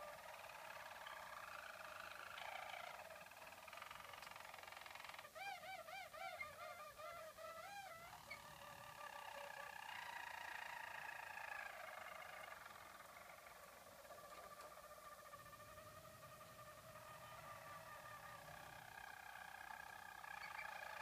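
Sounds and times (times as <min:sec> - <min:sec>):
canaries singing roller song: 0:00.0 - 0:21.0.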